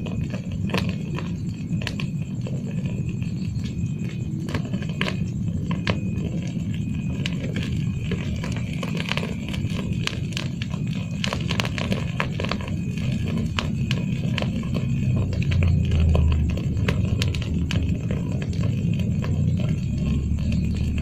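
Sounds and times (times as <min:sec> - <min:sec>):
campfire crackling: 0:00.0 - 0:21.0
low rumble: 0:00.0 - 0:21.0.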